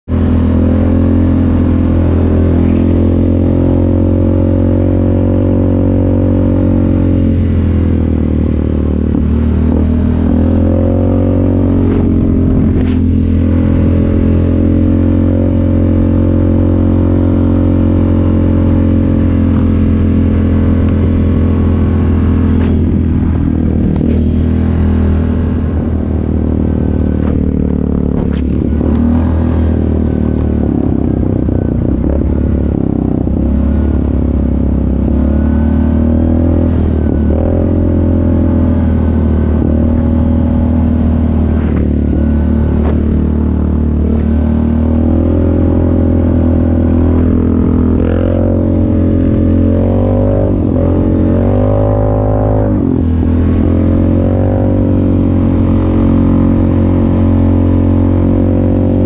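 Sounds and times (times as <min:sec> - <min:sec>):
atv engine cruising: 0:00.1 - 0:59.0.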